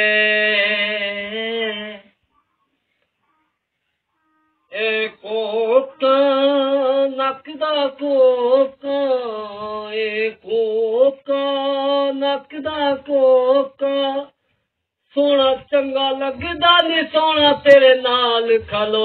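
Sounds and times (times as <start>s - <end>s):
man singing folk song: 0.0s - 2.2s, 4.7s - 14.4s, 15.1s - 19.0s.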